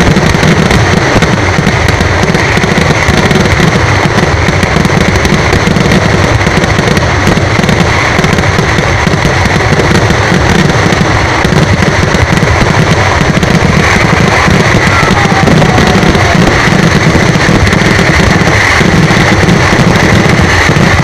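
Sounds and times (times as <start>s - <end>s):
fireworks crackling bangs: 0.0s - 21.0s.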